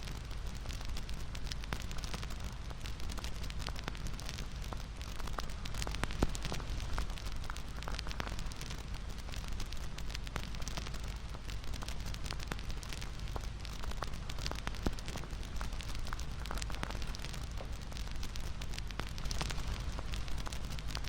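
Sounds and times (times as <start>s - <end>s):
wood bonfire crackling: 0.0s - 21.0s.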